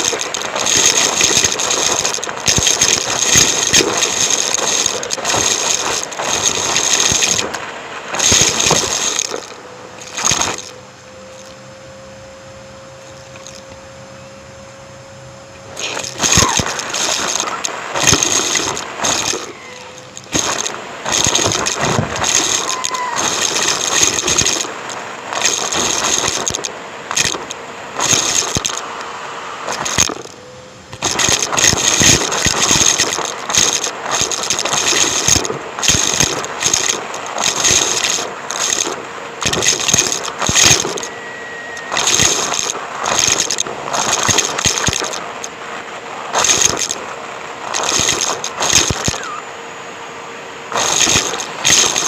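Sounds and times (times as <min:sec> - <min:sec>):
debris rattling in vacuum: 0:00.0 - 0:11.6, 0:13.1 - 0:13.6, 0:15.7 - 0:29.0, 0:29.6 - 0:45.6, 0:46.3 - 0:49.4, 0:50.7 - 0:52.0
vacuum cleaner running: 0:00.0 - 0:52.0.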